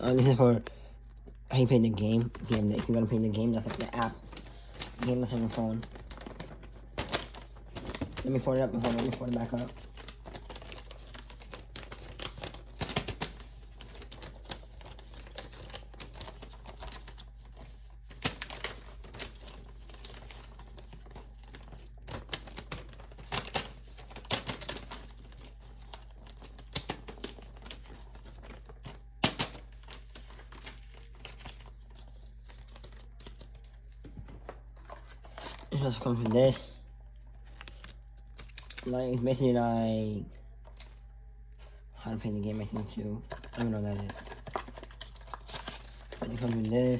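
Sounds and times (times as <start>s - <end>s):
paper crinkling and rustling: 0.0s - 46.9s.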